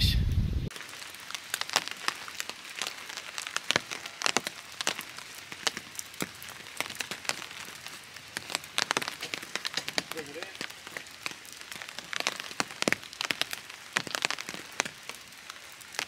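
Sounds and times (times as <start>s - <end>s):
rain hiss: 0.0s - 16.0s
raindrop taps: 1.3s - 15.3s.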